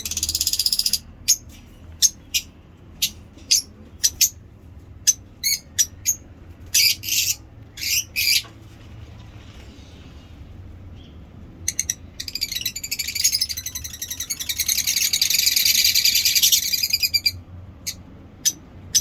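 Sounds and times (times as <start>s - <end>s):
high-pitched bird chirps: 0.0s - 1.4s, 2.0s - 4.4s, 5.0s - 8.5s, 11.0s - 19.0s
birds chattering trill: 0.0s - 4.4s, 5.0s - 8.5s, 10.9s - 19.0s.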